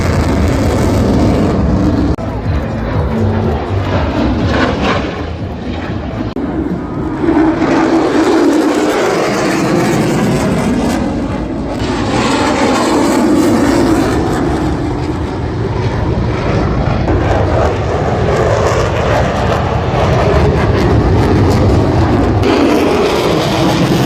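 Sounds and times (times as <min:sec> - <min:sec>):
jet engine roaring: 0:00.0 - 0:24.0.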